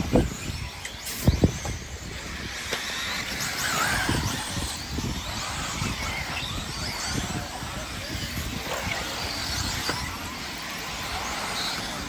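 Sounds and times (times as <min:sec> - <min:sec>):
rc car electric motors whining: 0:00.0 - 0:12.0.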